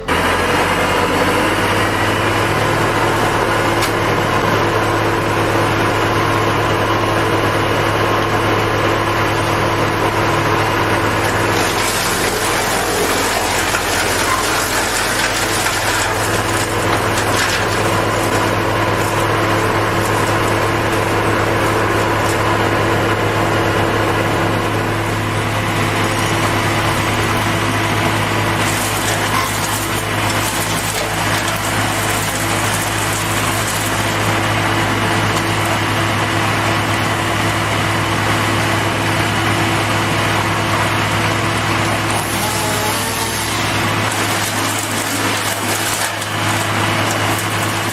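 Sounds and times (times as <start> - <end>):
machine engine humming: 0.0 - 47.9.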